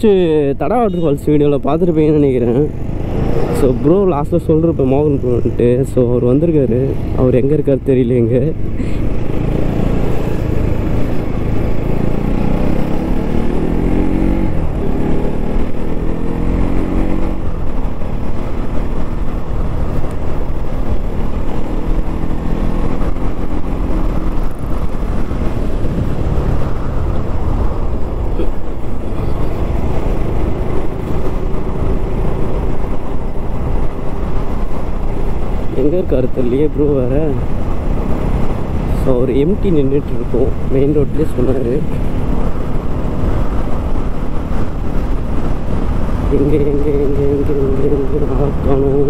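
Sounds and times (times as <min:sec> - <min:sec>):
motorcycle engine accelerating: 0:02.3 - 0:07.5, 0:08.1 - 0:49.0
wind rumble on microphone: 0:08.4 - 0:49.0.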